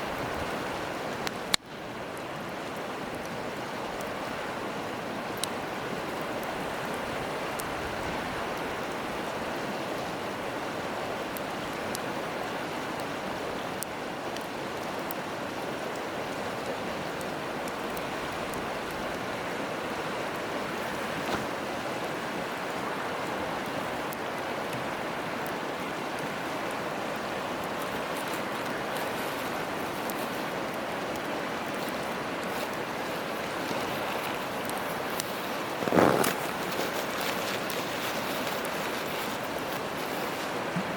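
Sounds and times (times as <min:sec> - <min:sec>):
campfire crackles and pops: 0:00.0 - 0:40.9
river water rushing: 0:00.0 - 0:40.9.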